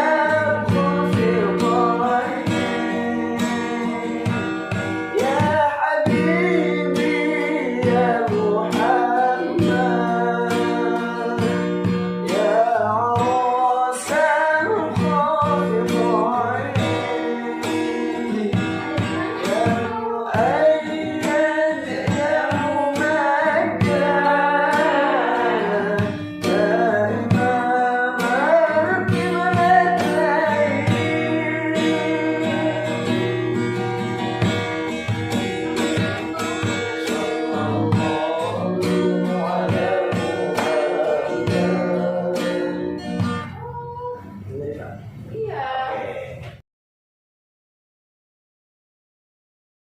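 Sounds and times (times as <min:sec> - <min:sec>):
person singing slow melody: 0:00.0 - 0:34.0, 0:36.0 - 0:44.5
strummed acoustic guitar: 0:00.0 - 0:45.4.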